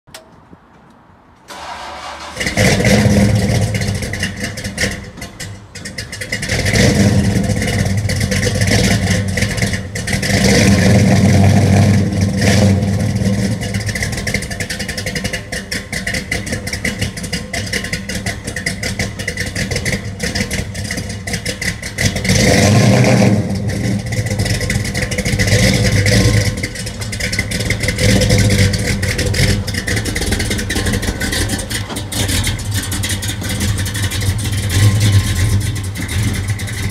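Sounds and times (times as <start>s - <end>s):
car engine revving: 1.5s - 36.9s.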